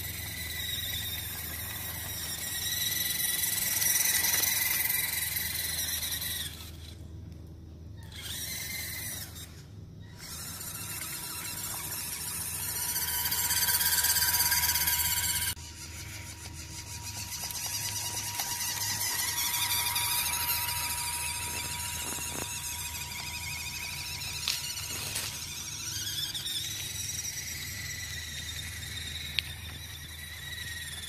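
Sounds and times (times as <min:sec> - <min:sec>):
electric motor whining: 0:00.0 - 0:07.0, 0:08.0 - 0:31.0.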